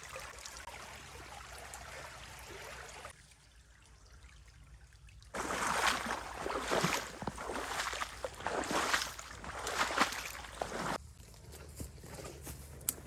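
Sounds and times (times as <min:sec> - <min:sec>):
water trickling and running: 0:00.0 - 0:11.0.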